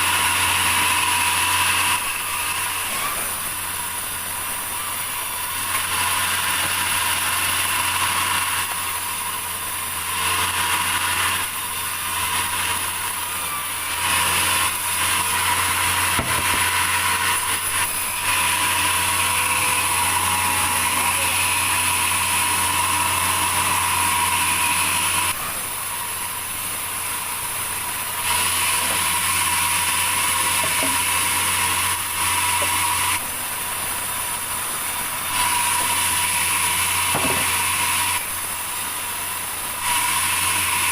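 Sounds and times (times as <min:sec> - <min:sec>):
sawmill saw cutting log: 0:00.0 - 0:40.9.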